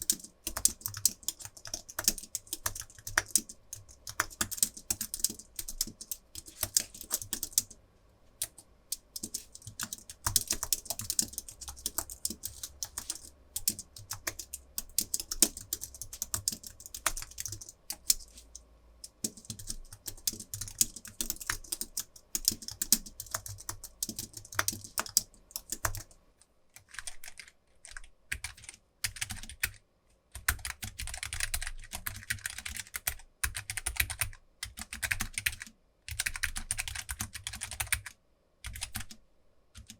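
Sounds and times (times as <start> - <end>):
typing on keyboard clicks: 0.0 - 7.8, 8.4 - 26.1, 26.8 - 29.8, 30.4 - 39.2.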